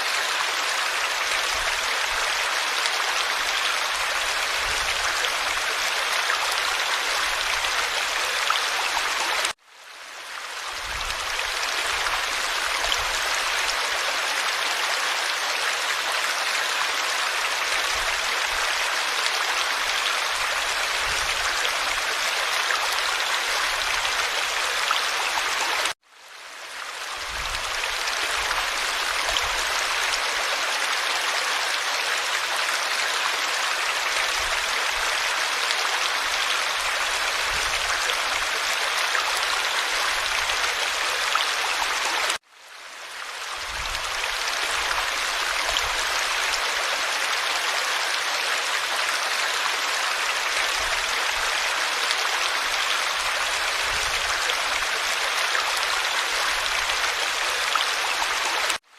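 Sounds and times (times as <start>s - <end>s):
forest stream babbling: 0.0s - 58.9s.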